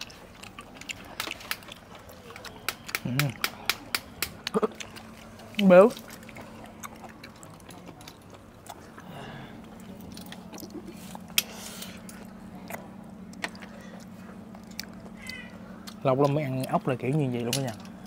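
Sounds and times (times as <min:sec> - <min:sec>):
chewing: 0:00.0 - 0:18.0
steady low hum: 0:00.0 - 0:18.0.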